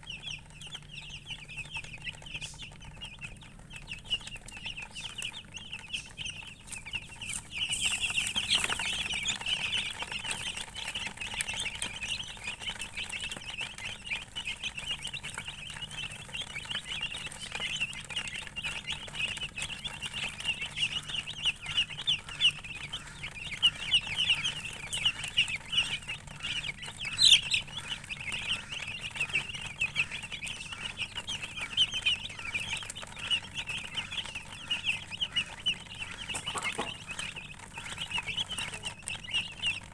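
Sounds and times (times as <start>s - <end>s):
chicks chirping: 0.0s - 39.9s.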